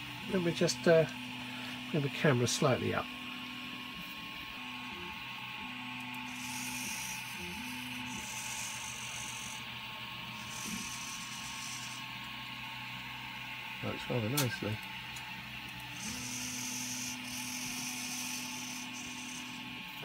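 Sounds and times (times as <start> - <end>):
servo motors whirring: 0.1 - 12.6, 14.0 - 20.0.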